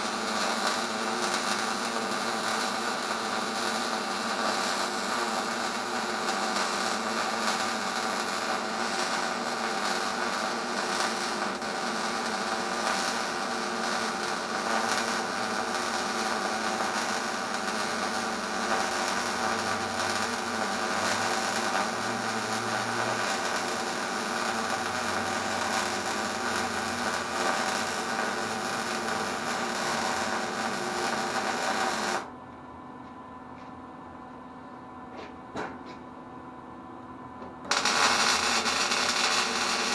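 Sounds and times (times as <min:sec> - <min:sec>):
arc welding crackling buzz: 0:00.0 - 0:32.3, 0:37.6 - 0:39.9
faint hum: 0:00.1 - 0:39.8.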